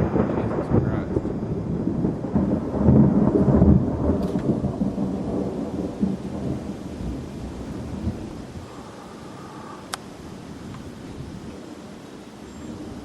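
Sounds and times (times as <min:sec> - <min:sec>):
thunder rumbling: 0:00.0 - 0:12.0
rain falling: 0:00.0 - 0:13.0.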